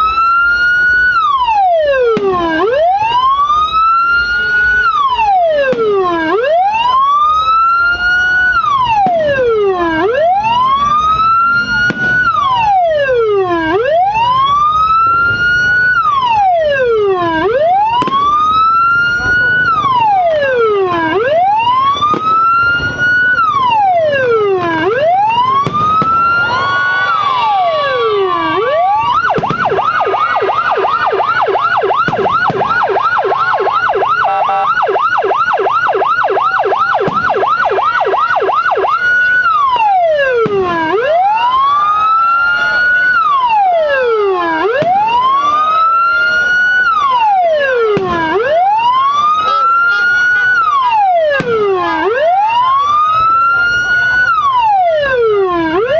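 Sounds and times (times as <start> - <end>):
electronic siren wailing and yelping: 0.0 - 55.9.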